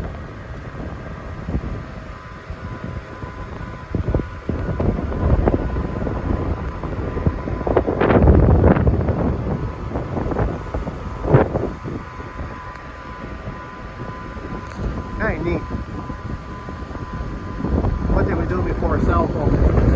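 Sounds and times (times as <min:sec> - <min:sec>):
gusty wind on microphone: 0:00.0 - 0:19.9.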